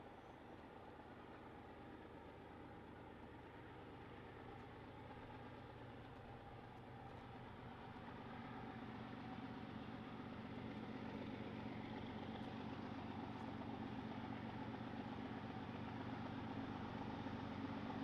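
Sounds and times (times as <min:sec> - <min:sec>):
distant locomotive engine drone: 0:00.0 - 0:18.0.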